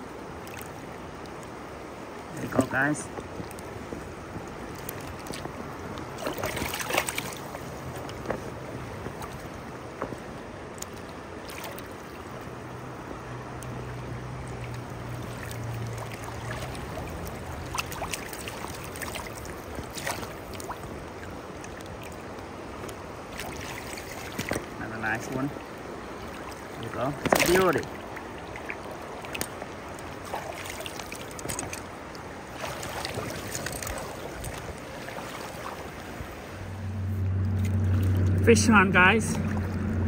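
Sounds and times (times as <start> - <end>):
rocky river flowing: 0.0 - 40.0.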